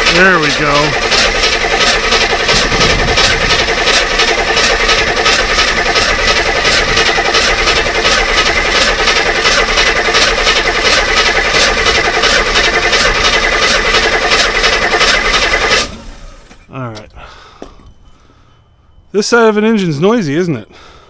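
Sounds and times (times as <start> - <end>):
power drill whining with ticking: 0.0 - 18.8.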